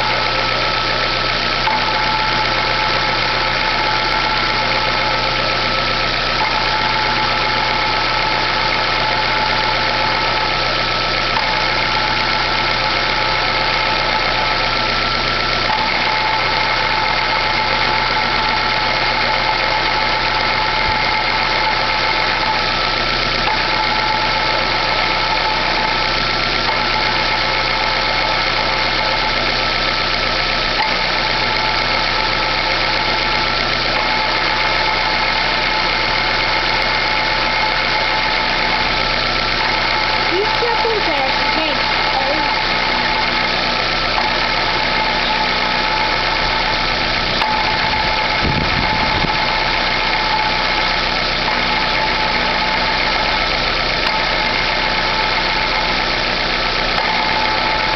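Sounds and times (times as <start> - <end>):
car engine idling: 0.0 - 57.9
clutch whine: 0.0 - 57.9.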